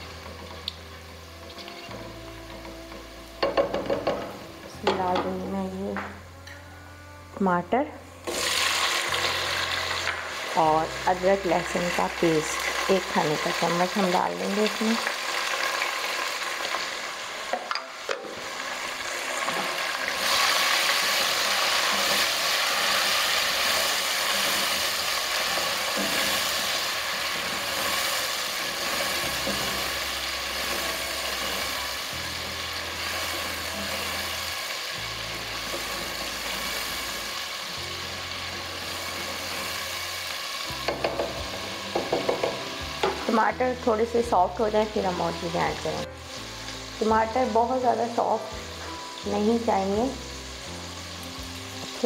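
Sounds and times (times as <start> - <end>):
food sizzling in oil: 0.0 - 52.0.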